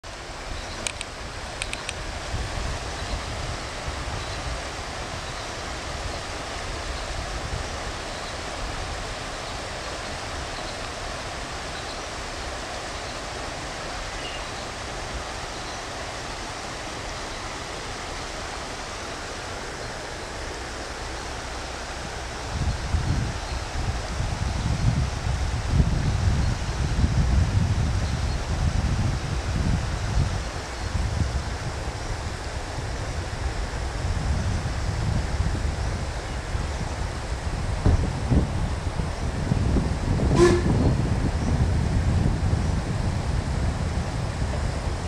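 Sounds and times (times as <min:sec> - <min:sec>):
river rippling over stones: 0:00.0 - 0:45.0
wind buffeting microphone: 0:00.1 - 0:45.0.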